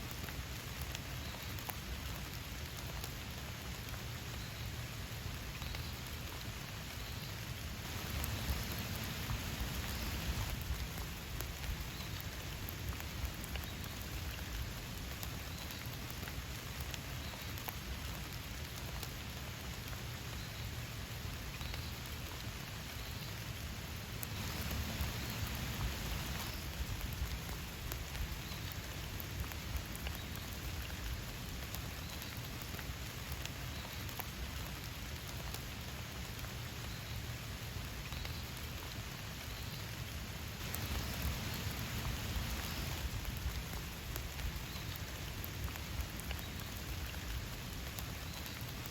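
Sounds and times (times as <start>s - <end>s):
raindrops pattering on surfaces: 0.0s - 48.9s
steady rain hiss: 0.0s - 48.9s.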